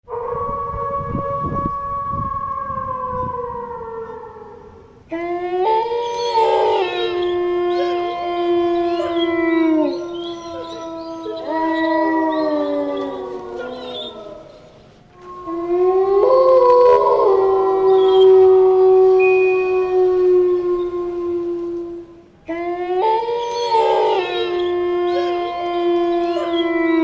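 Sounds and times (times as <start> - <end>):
dogs howling: 0.1 - 27.0.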